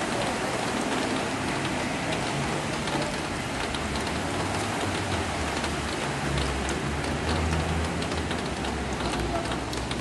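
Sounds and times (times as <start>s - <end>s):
rain and water spray hissing: 0.0s - 10.0s.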